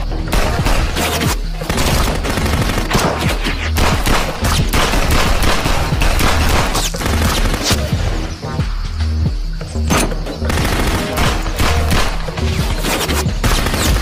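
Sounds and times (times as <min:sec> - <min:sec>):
gunshots from several guns: 0:00.0 - 0:08.3, 0:09.9 - 0:14.0.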